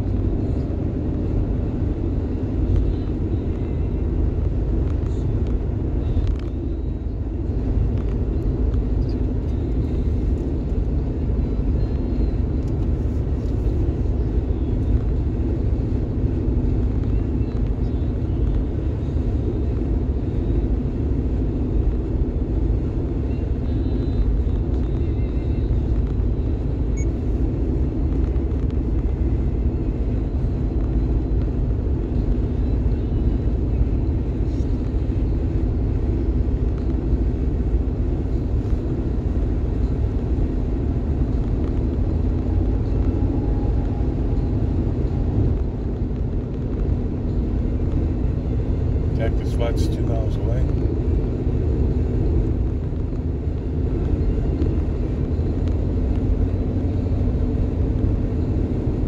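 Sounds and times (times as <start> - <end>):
car road noise: 0.0 - 59.0.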